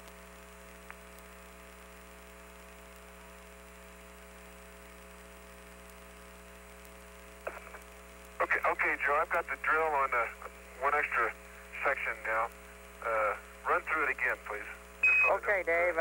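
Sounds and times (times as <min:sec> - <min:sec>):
faint radio static: 0:00.0 - 0:16.0
radio hum with fixed tones: 0:00.0 - 0:16.0.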